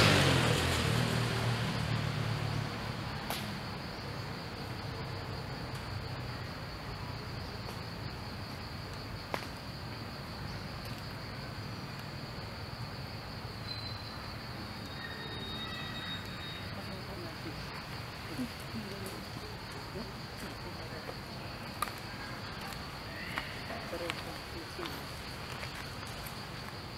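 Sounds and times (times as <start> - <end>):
insects droning: 0.0 - 26.9.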